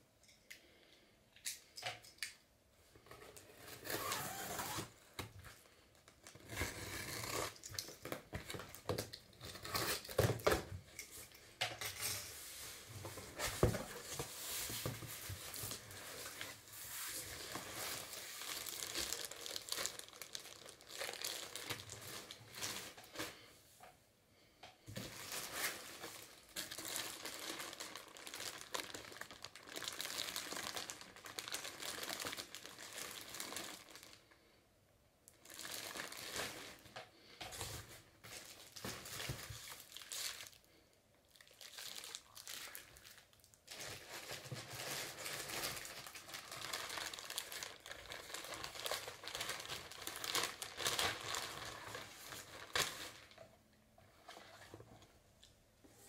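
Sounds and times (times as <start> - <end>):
packaging crinkling and rustling: 3.0 - 11.3, 12.2 - 23.5, 24.9 - 34.4, 35.3 - 40.6, 41.3 - 53.5.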